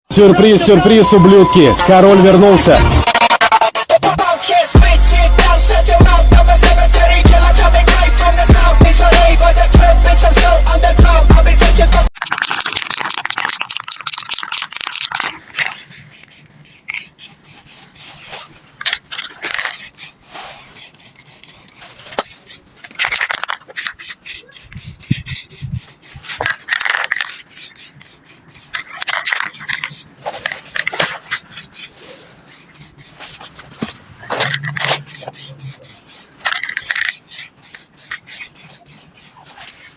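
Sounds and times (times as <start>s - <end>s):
hand scraping on bicycle: 4.1s - 39.9s.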